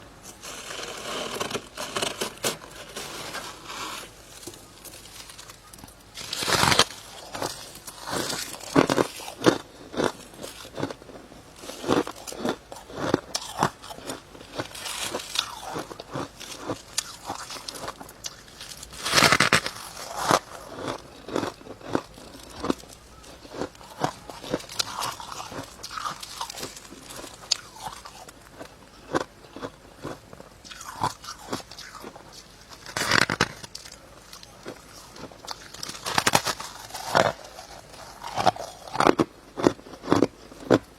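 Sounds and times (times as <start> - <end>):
crunching and chewing frost: 0.0 - 40.9.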